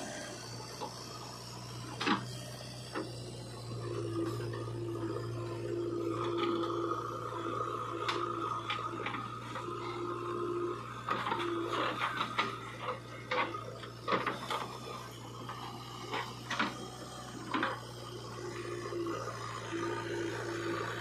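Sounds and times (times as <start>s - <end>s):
diesel engine humming: 0.0s - 21.0s.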